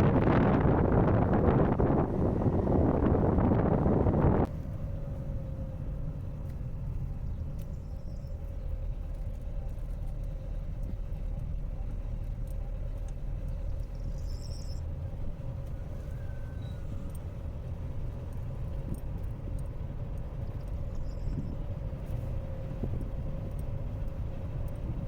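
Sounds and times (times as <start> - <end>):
vehicle engine rumble: 0.0 - 25.0.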